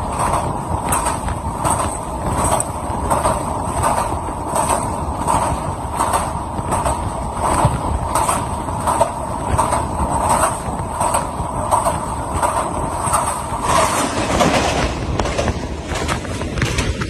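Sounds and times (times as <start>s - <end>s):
train carriages rumbling: 0.0s - 17.0s
wheels clacking over rail joints: 0.0s - 17.0s.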